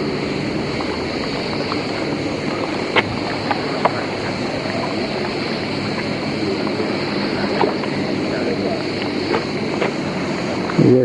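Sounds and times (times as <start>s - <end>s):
low engine hum: 0.0s - 11.0s
wind-like noise: 0.0s - 11.0s.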